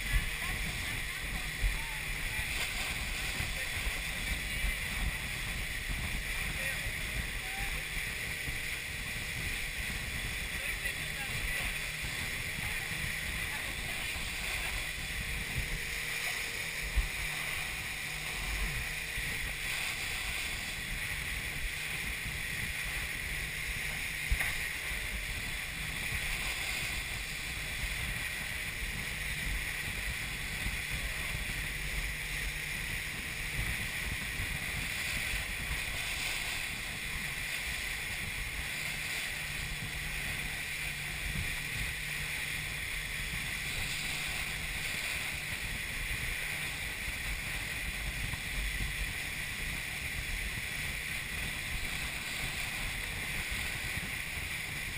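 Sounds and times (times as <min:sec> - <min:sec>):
motorboat engine running: 0:00.0 - 0:54.9
water rushing: 0:00.0 - 0:54.9.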